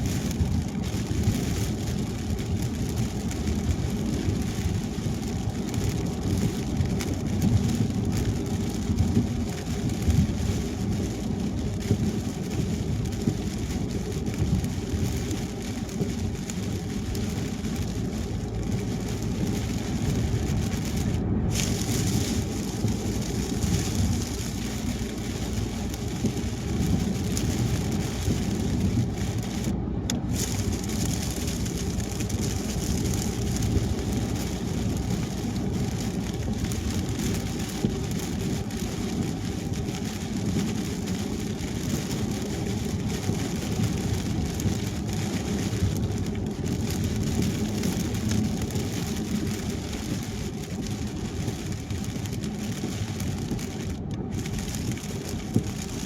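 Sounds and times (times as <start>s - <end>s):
rain: 0.0s - 56.0s
tyre noise on wet road: 0.0s - 56.0s.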